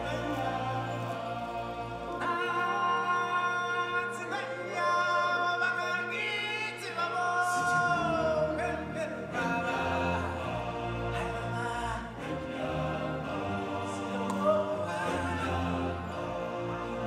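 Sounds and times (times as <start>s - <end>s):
choir and solo voices singing: 0.0s - 17.0s.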